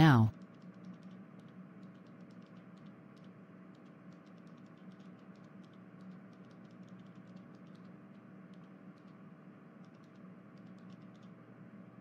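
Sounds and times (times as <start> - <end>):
low steady hum: 0.0 - 12.0
soft irregular clicks: 0.3 - 11.4.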